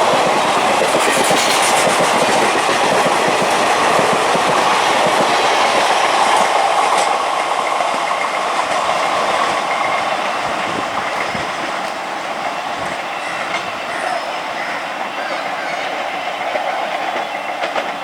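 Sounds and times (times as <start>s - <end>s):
train wheels clattering over rails: 0.0s - 18.0s.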